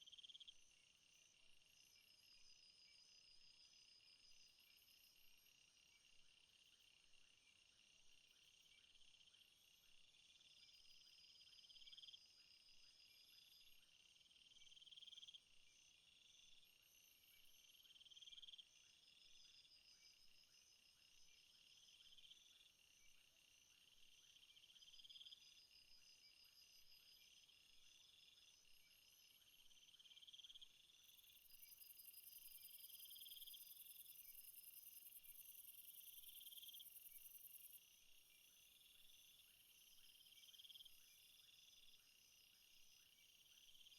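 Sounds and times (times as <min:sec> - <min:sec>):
swelling insect call: 0:00.0 - 0:07.0, 0:08.3 - 0:43.9.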